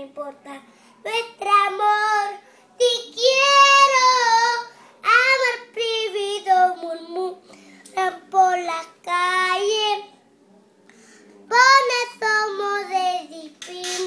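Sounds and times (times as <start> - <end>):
girl singing unaccompanied: 0.0 - 10.2, 11.5 - 14.0.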